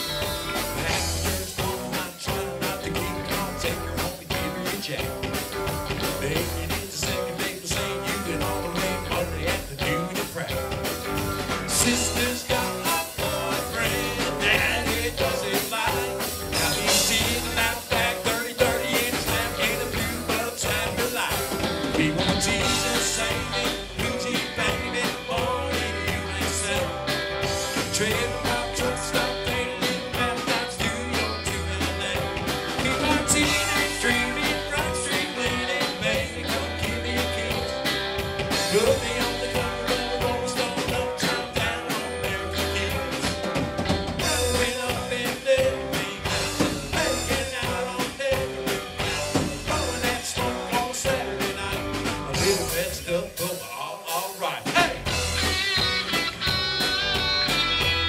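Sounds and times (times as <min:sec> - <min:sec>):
live country rock band: 0:00.0 - 0:58.0.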